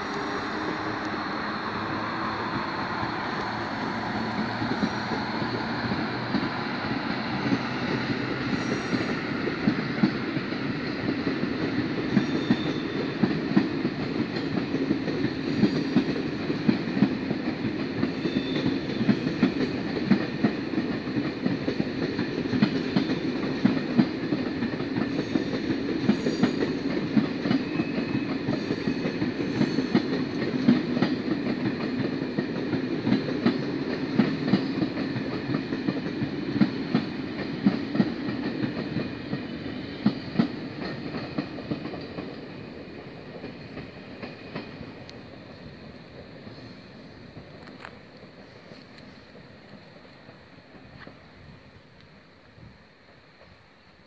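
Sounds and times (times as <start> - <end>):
train coaches rumbling: 0.0 - 54.0
wheels clicking over rail joints: 2.5 - 46.6.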